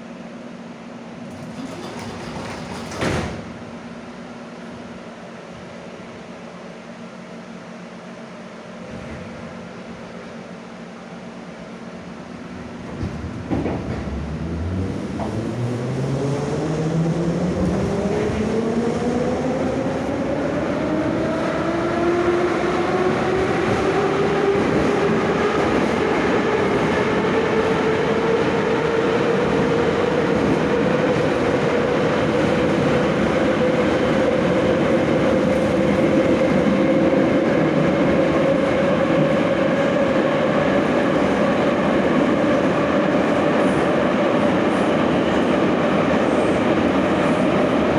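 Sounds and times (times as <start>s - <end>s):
subway traction motors whining: 0.0s - 47.9s
train running on rails: 0.0s - 47.9s.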